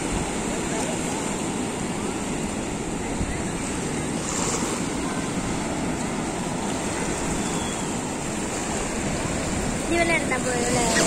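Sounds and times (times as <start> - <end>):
waves breaking on rocks and sand: 0.0 - 11.0
wind buffeting microphone: 0.0 - 11.0.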